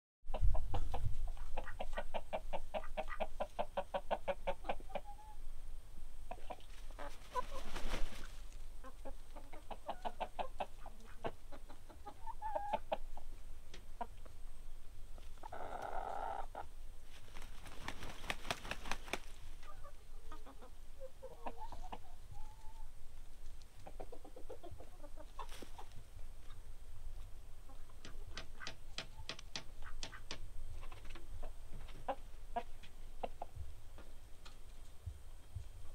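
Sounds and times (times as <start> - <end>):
chickens clucking: 0.3 - 5.5, 6.2 - 35.9.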